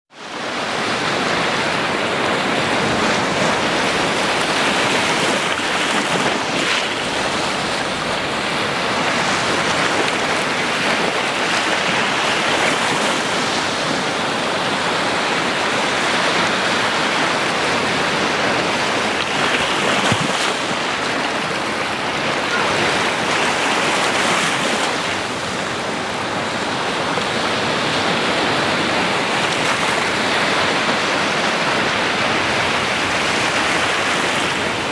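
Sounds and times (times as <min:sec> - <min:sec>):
ocean waves washing: 0:00.1 - 0:34.9.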